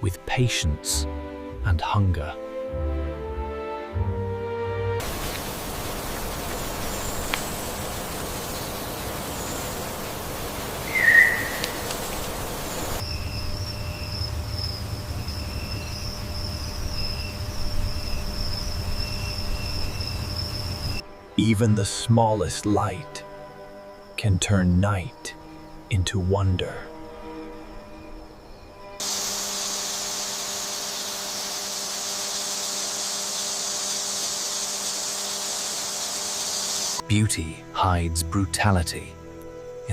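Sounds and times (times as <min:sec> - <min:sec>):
outdoor ambience hiss: 0:04.1 - 0:39.9
crickets trilling: 0:05.0 - 0:39.9.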